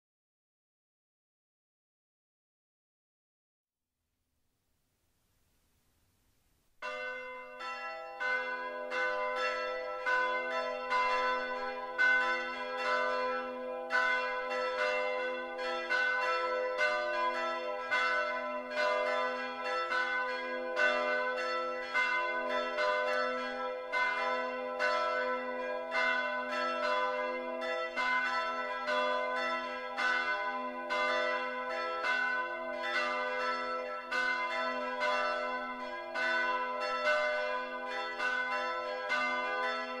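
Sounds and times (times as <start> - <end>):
church bells pealing: 6.8 - 40.0.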